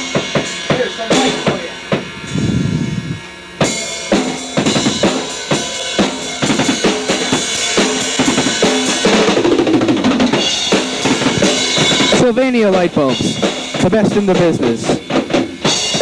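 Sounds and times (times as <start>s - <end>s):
bass drum and snare beat: 0.0s - 16.0s
rock music: 0.0s - 16.0s
sustained pitched notes: 0.0s - 16.0s.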